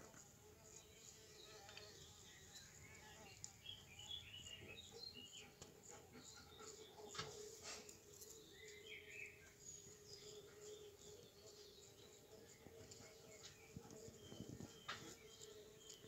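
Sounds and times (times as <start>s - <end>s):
faint bird chirps: 1.0s - 16.0s.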